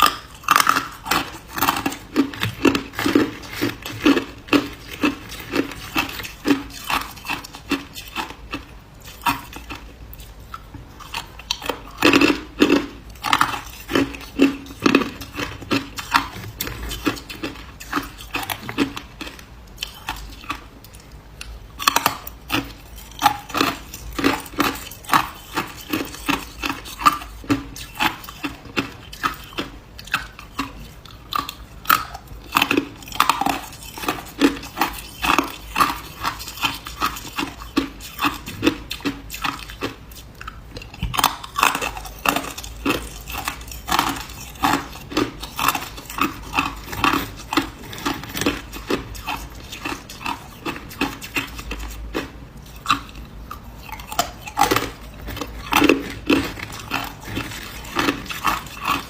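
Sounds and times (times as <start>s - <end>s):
ice crunching being chewed: 0.0s - 59.0s.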